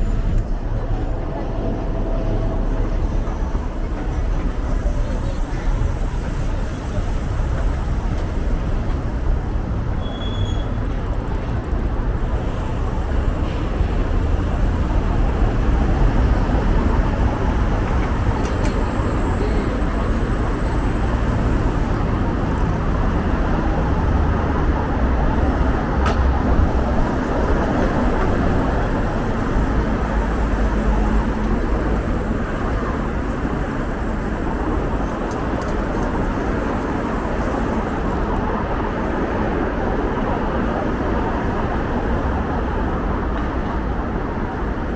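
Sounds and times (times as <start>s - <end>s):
road traffic rumble: 0.0s - 44.9s.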